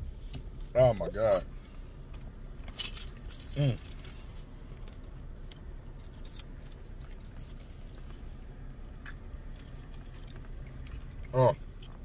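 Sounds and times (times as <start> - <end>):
car interior hum: 0.0 - 12.0
faint clicks and crinkles eating: 1.4 - 12.0.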